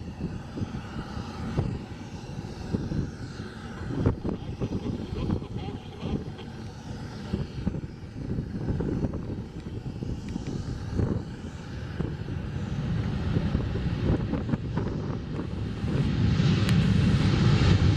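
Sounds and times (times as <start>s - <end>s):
jet airliner engines rumbling: 0.0s - 17.9s.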